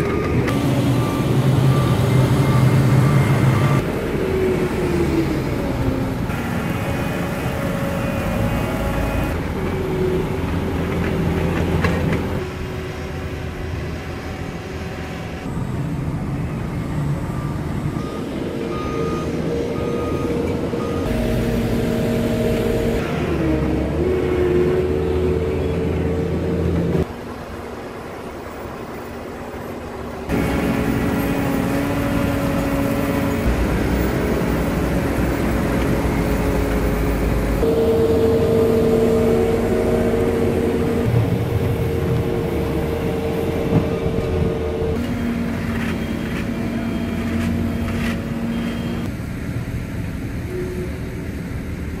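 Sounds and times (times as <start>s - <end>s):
diesel machinery engines running: 0.0s - 52.0s.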